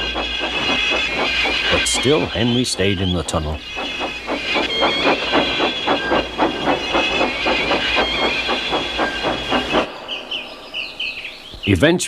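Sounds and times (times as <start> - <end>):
hiss of steam: 0.0 - 11.5
steam locomotive chuffing: 0.0 - 11.6.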